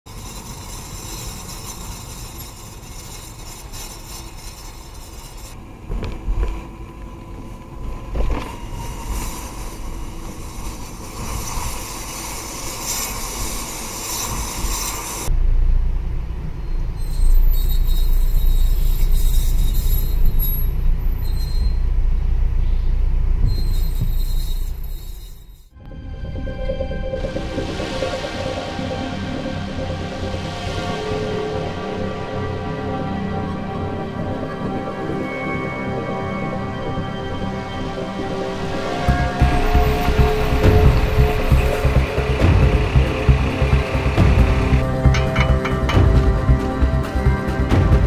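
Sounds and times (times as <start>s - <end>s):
metallic scraping and squealing wheel: 0.0s - 15.3s, 16.4s - 48.0s
tyre and road noise: 0.1s - 48.0s.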